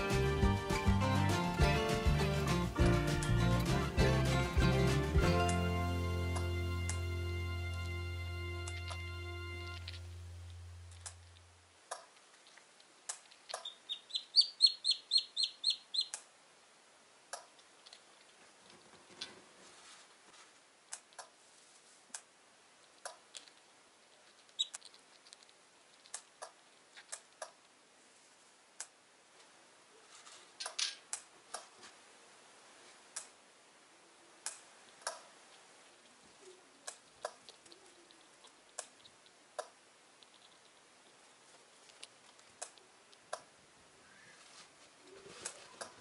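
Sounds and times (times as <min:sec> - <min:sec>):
low hiss: 0:00.0 - 0:46.0.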